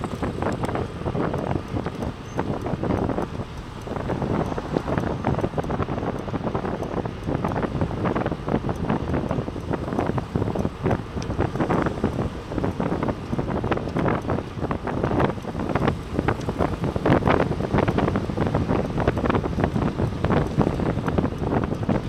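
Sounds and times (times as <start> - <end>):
car traffic road noise: 0.0 - 22.0
wind buffeting microphone: 0.0 - 22.0.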